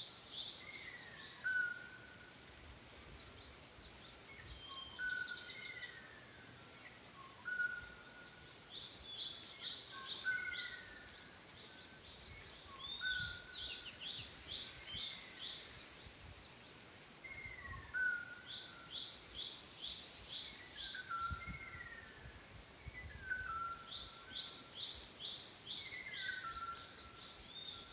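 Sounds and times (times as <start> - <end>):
faint outdoor background: 0.0 - 27.9.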